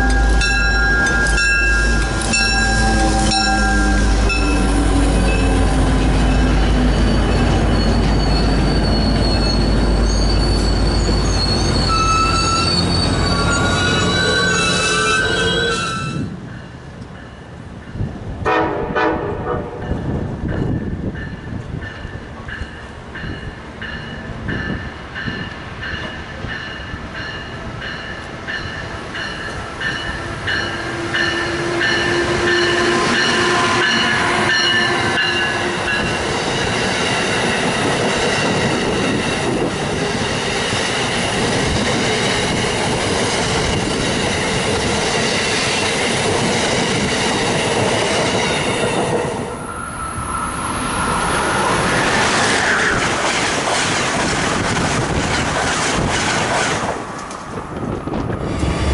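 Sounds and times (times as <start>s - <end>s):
passenger train rushing past: 0.0s - 58.9s.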